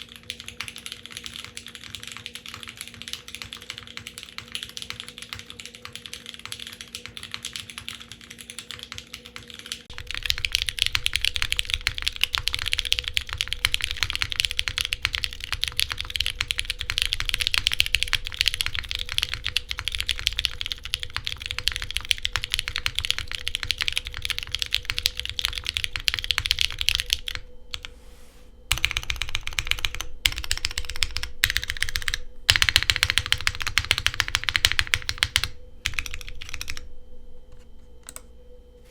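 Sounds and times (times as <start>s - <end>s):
typing on mechanical keyboard: 0.0s - 27.9s, 28.7s - 36.9s.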